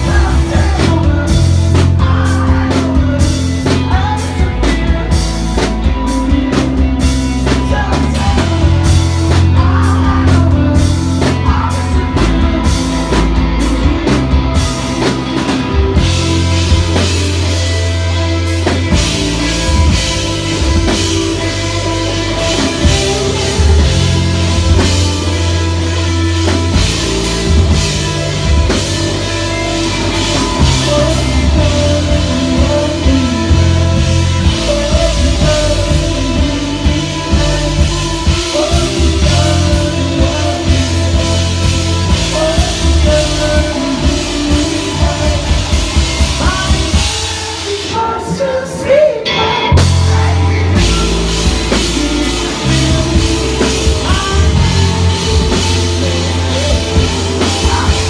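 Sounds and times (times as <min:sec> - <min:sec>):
drum kit: 0:00.0 - 0:58.0
guitars: 0:00.0 - 0:58.0
person singing: 0:00.0 - 0:58.0
rock band playing live: 0:00.0 - 0:58.0.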